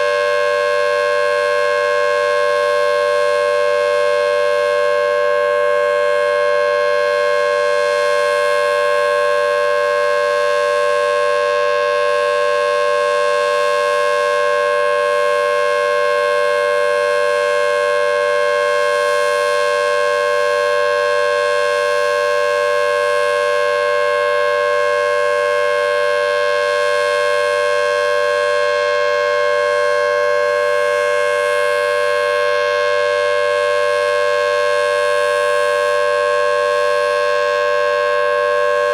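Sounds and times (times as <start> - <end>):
civil defense siren steady tone: 0.0 - 38.9.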